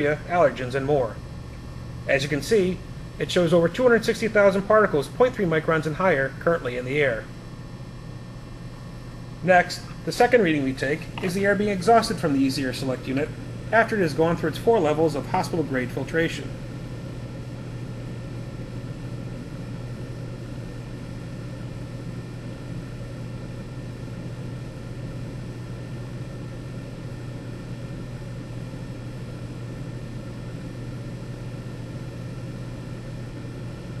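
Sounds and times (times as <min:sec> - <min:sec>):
air cleaner blower running: 0:00.0 - 0:34.0.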